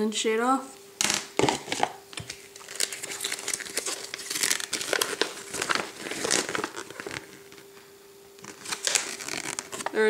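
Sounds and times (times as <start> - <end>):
plastic packaging crinkling: 1.0 - 7.8, 8.4 - 10.0.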